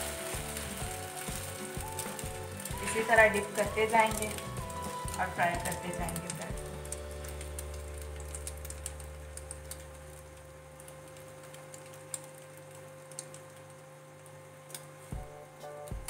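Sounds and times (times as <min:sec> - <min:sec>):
bread frying in oil: 0:00.0 - 0:16.0
low steady hum: 0:00.0 - 0:16.0.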